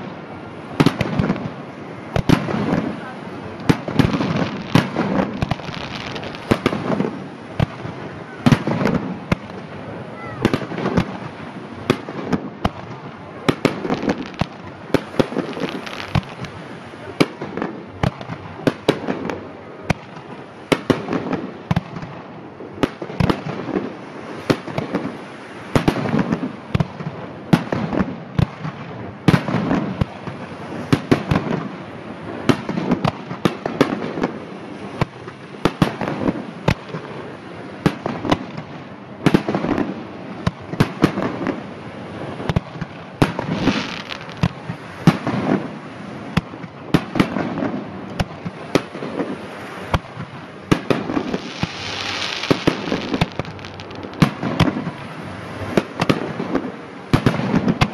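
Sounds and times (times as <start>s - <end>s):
fireworks bangs and crackles: 0.0s - 57.9s
low fireworks booms: 0.0s - 57.9s.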